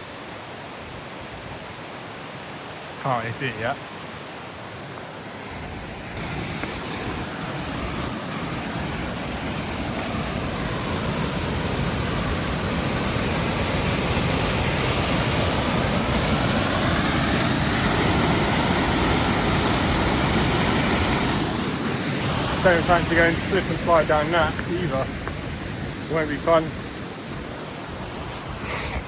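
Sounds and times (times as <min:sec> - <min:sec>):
waterfall roaring: 0:01.8 - 0:29.0.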